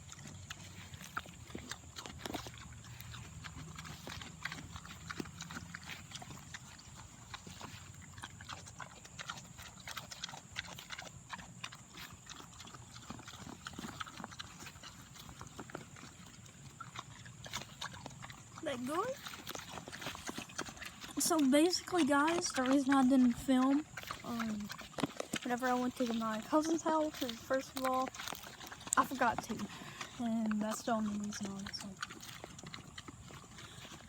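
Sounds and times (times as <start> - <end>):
pig chewing and crunching: 0.0 - 34.0.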